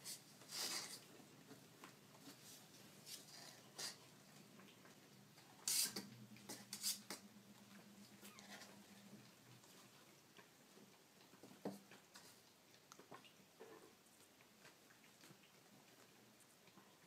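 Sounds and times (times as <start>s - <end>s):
kittens scratching and rustling: 0.0s - 17.0s.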